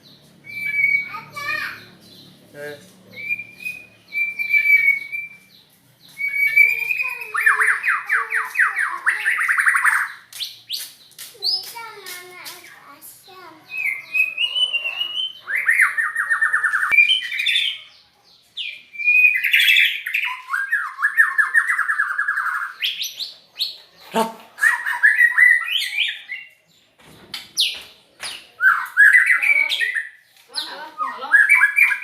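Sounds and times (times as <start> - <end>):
bird singing trills and whistles: 0.0 - 2.3, 3.1 - 11.8, 13.6 - 18.0, 18.6 - 23.8, 24.6 - 26.6, 28.6 - 32.0.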